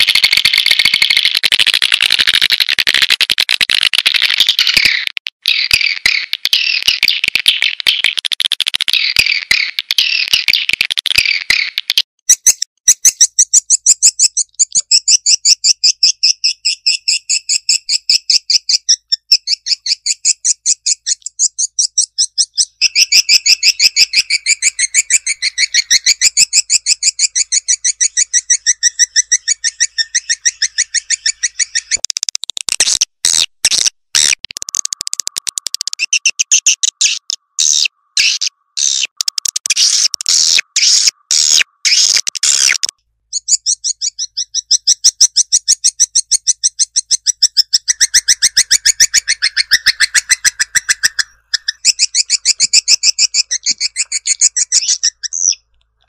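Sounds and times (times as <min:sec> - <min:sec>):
swiftlet calls trilling: 0:00.0 - 0:21.2, 0:22.0 - 0:32.0, 0:34.2 - 0:55.6.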